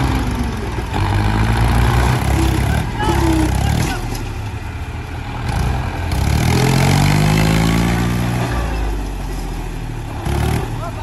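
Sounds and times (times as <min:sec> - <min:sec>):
tractor diesel engines revving: 0:00.0 - 0:11.0.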